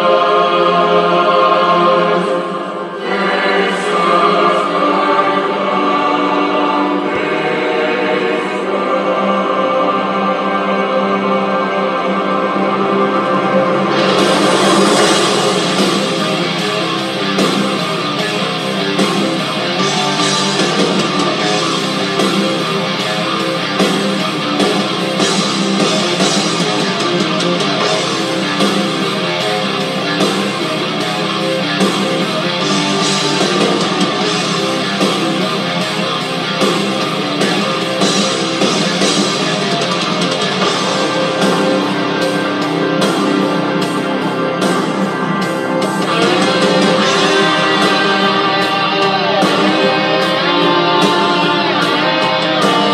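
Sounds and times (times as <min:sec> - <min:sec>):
guitar rock music: 0:00.0 - 0:52.9.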